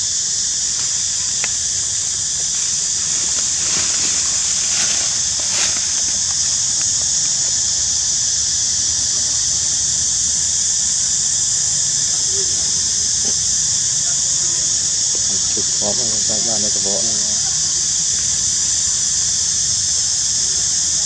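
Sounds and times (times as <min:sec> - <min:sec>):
cicada chorus: 0:00.0 - 0:21.0.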